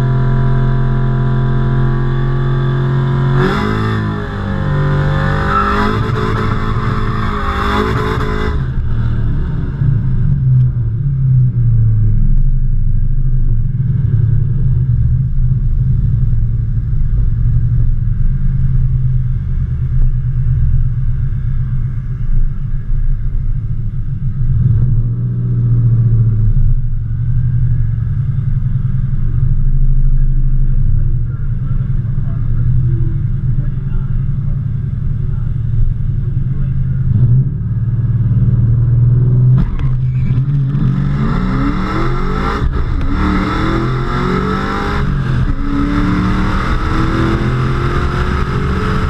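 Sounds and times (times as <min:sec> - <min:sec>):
car engine idling: 0:04.0 - 0:49.0.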